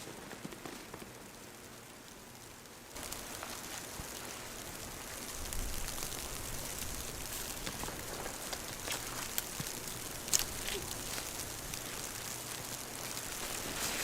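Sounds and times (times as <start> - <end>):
rain pattering on a surface: 0.0 - 14.0.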